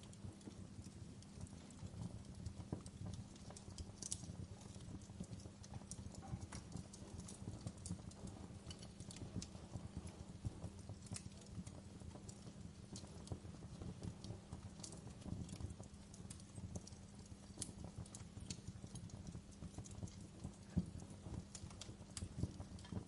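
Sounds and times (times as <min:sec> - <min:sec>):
fire popping and snapping: 0:00.0 - 0:23.0
wood fire crackling: 0:00.0 - 0:23.0.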